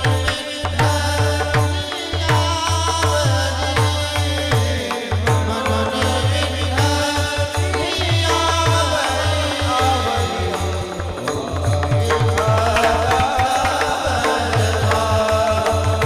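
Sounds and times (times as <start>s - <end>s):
person singing melody: 0.0s - 16.0s
sharp percussion clicks: 0.0s - 16.0s.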